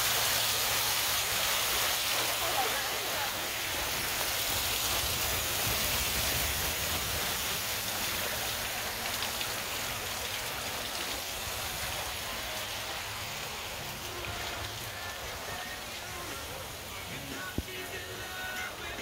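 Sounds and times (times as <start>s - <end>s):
even outdoor hiss: 0.0s - 19.0s.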